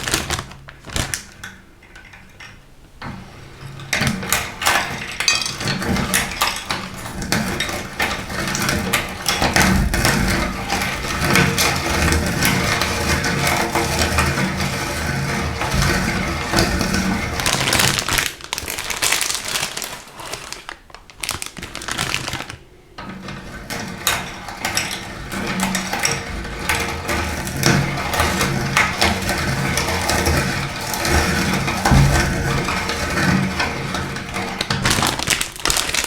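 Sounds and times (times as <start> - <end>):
meat grinder crunching snack sticks: 4.2 - 22.7, 23.6 - 36.0.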